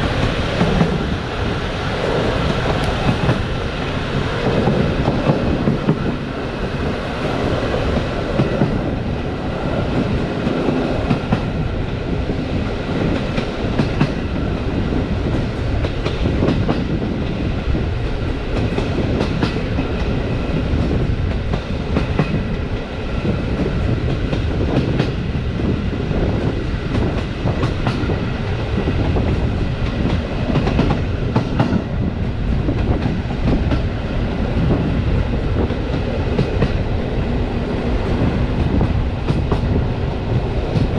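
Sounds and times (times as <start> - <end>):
train wheels rumbling: 0.0 - 40.9
rail joint clicks and knocks: 2.0 - 9.2, 9.8 - 40.9.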